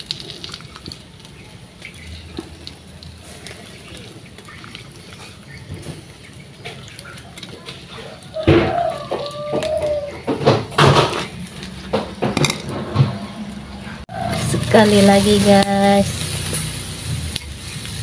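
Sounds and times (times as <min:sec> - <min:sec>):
fish sizzling on grill: 0:00.0 - 0:12.6, 0:13.5 - 0:18.0
coals crackling and popping: 0:00.0 - 0:12.8, 0:13.5 - 0:18.0.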